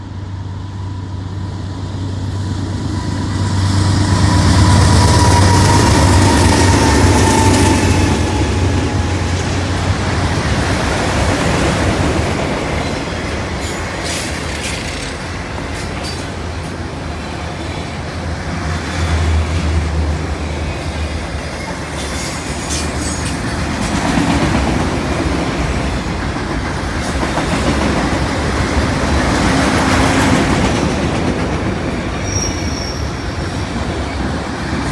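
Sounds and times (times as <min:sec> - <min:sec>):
diesel locomotive engine hum: 0:00.0 - 0:34.9
train wheels clacking and squealing: 0:00.0 - 0:34.9.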